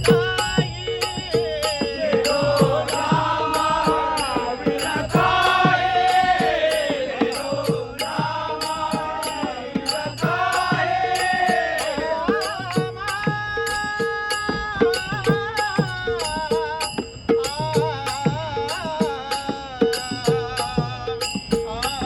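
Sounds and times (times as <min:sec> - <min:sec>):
drum strokes: 0:00.0 - 0:22.0
hand cymbals ringing: 0:00.0 - 0:22.0.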